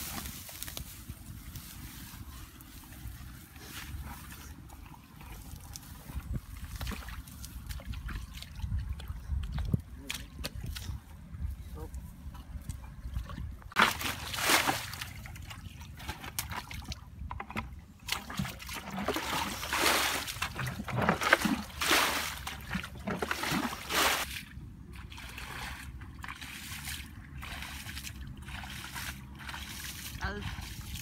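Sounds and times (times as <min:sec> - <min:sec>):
ditch water splashing and sloshing: 0:00.0 - 0:31.0.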